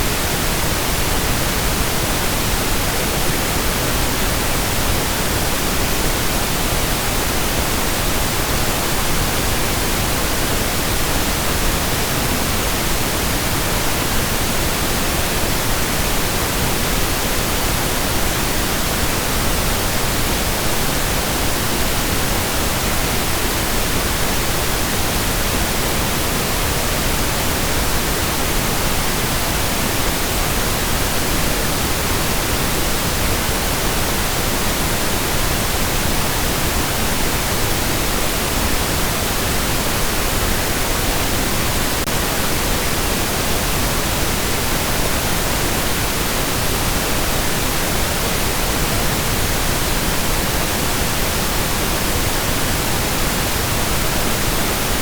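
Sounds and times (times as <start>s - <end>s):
steady pink noise hiss: 0.0s - 55.0s.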